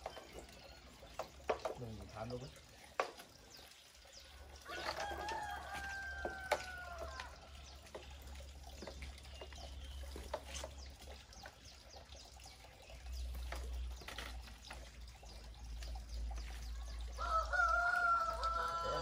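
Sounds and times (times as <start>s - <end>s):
bird chirps and clicks: 0.0s - 17.6s.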